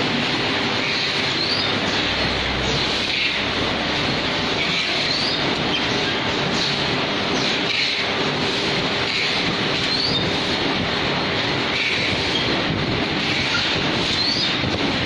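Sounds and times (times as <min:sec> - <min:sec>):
machinery clattering: 0:00.0 - 0:15.0.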